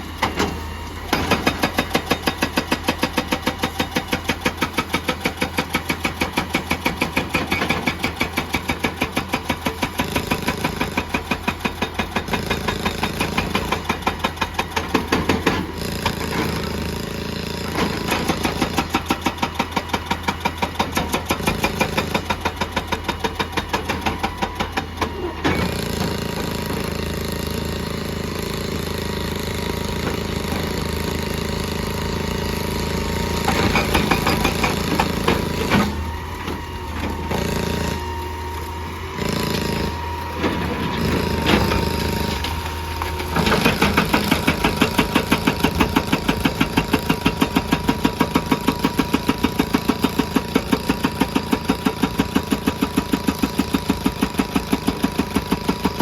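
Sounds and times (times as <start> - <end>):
diesel engine running: 0.0 - 56.0
hydraulic rock breaker hammering: 0.0 - 56.0.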